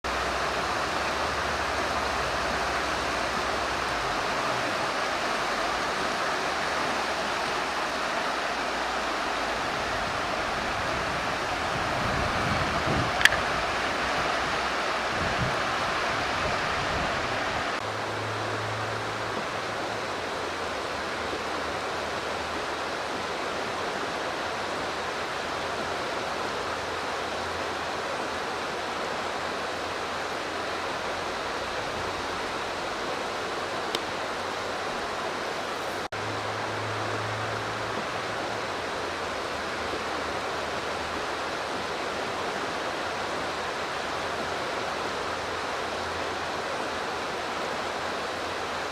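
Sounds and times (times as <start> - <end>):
flowing river water: 0.0 - 48.9.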